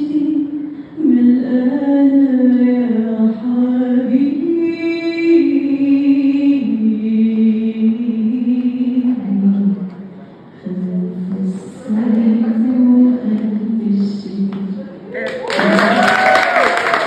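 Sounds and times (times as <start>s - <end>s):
woman singing slow melody: 0.0s - 10.0s, 10.6s - 16.0s.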